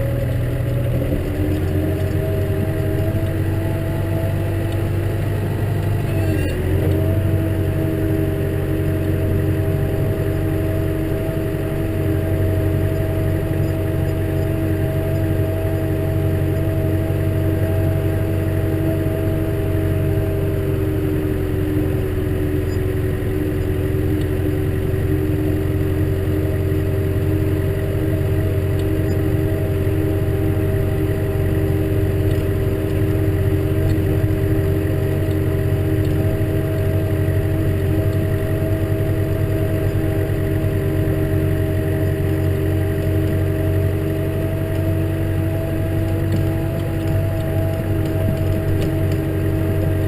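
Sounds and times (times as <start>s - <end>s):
tractor engine droning: 0.0s - 50.0s.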